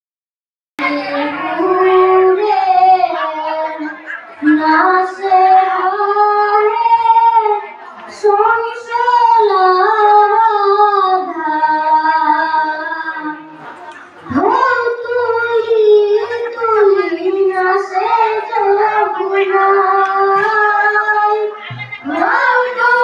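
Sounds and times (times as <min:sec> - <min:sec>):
boy singing into a microphone: 0:00.8 - 0:23.0.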